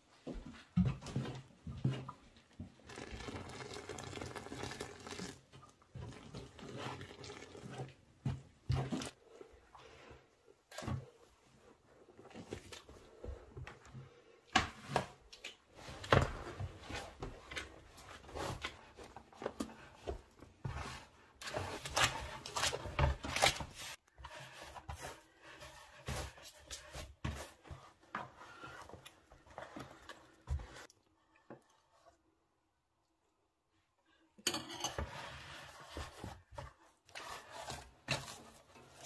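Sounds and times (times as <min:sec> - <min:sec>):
hands kneading dough in bowl: 0:00.6 - 0:32.2, 0:35.0 - 0:39.0.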